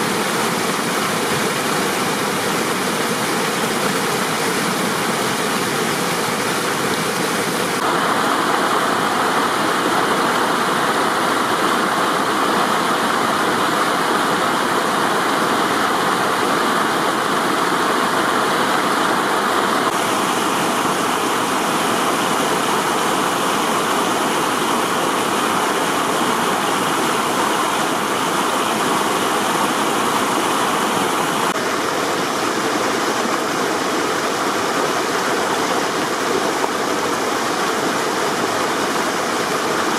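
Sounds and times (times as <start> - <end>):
stream flowing over cascades: 0.0 - 39.9.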